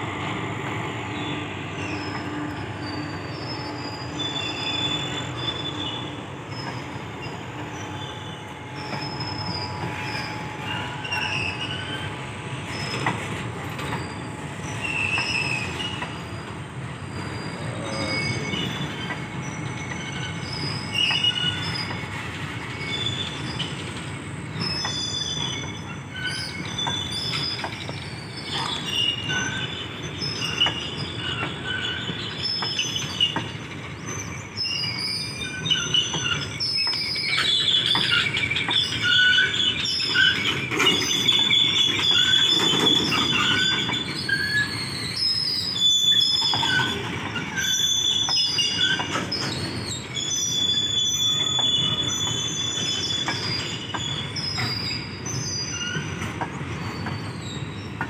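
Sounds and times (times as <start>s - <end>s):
freight train wheels rumbling: 0.0s - 58.0s
train wheel squeals: 0.0s - 58.0s.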